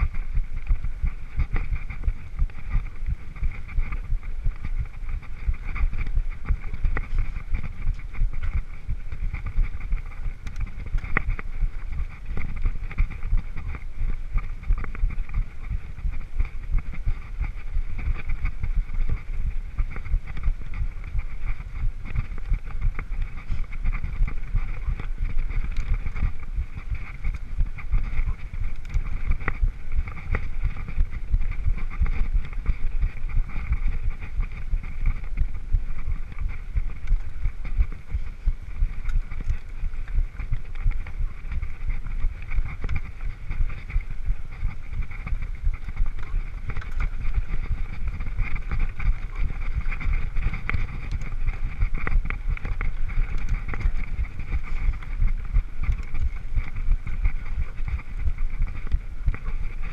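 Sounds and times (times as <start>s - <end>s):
mountain bike rumbling over dirt: 0.0s - 59.9s
wind buffeting microphone: 0.0s - 59.9s.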